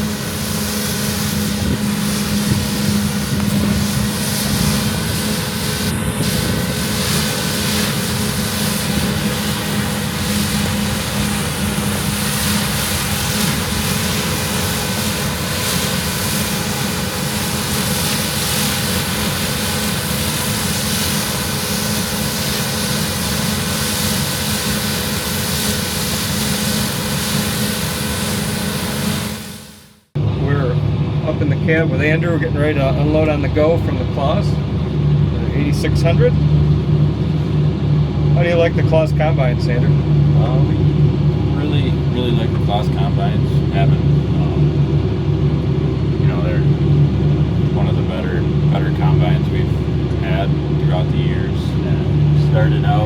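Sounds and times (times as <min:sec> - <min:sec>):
combine harvester machinery drone: 0:00.0 - 0:53.0.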